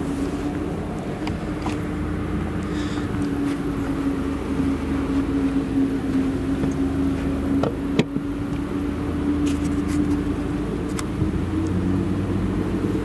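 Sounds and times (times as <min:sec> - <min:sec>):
loud machinery drone: 0:00.0 - 0:13.0.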